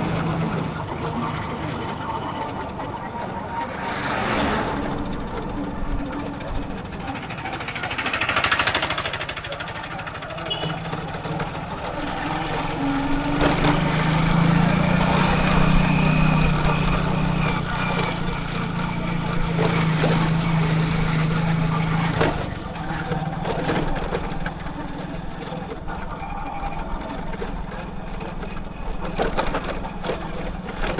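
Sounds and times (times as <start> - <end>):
motorcycle engine running: 0.0 - 30.9
vehicle passing: 0.0 - 30.9.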